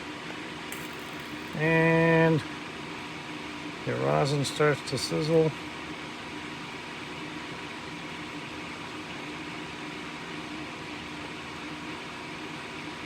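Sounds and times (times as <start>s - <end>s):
small fan whirring: 0.0s - 12.9s.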